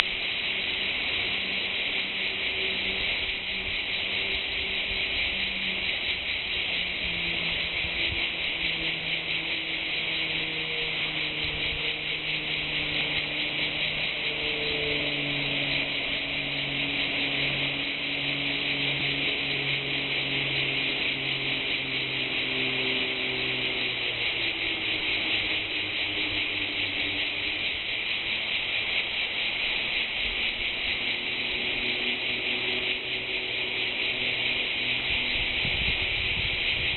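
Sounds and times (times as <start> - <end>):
insects buzzing chorus: 0.0 - 36.9.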